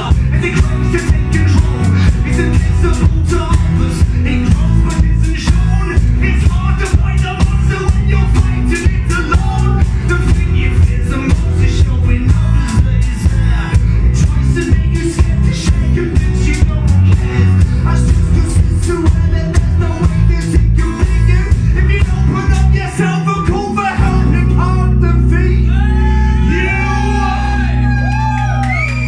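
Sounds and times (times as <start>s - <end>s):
steady drum beat: 0.0s - 24.4s
person singing: 0.0s - 28.2s
heavy bass: 0.0s - 29.0s
live rock band: 0.0s - 29.0s.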